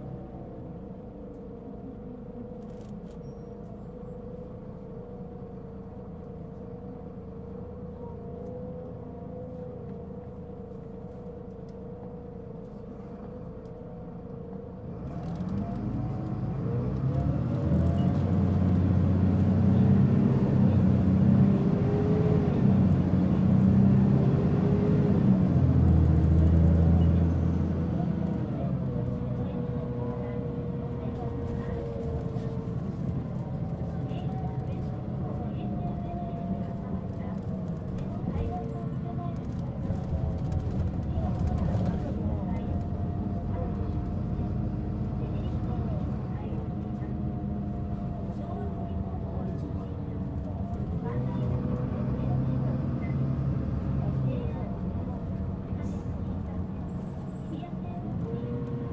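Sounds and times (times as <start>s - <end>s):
bus engine rumble: 0.0s - 58.9s.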